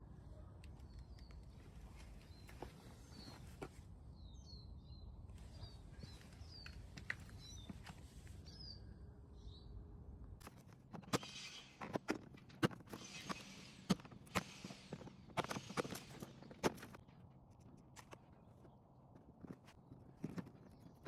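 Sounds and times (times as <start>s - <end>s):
birds chirping: 0.2s - 21.0s.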